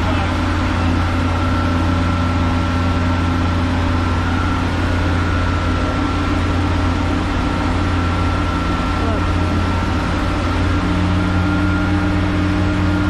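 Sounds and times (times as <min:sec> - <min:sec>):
diesel engine humming: 0:00.0 - 0:13.0
faint high whine: 0:00.0 - 0:13.0.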